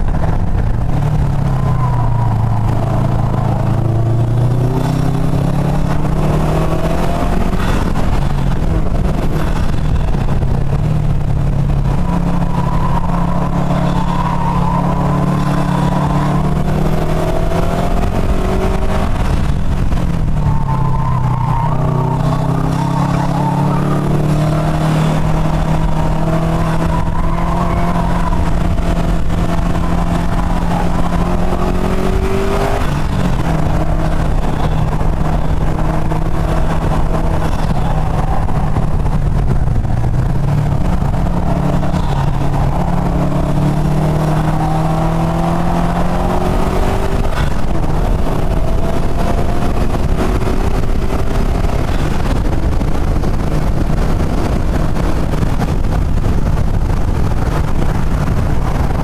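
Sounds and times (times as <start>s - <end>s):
car engine revving: 0.0s - 59.0s
wind and road noise: 0.0s - 59.0s.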